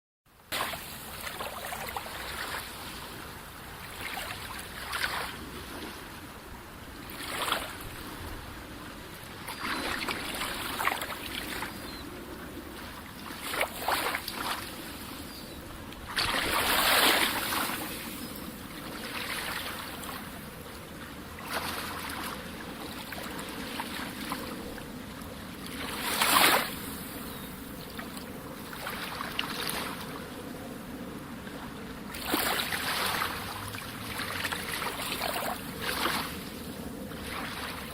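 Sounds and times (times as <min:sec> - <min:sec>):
sea waves breaking on shore: 0:00.4 - 0:37.9.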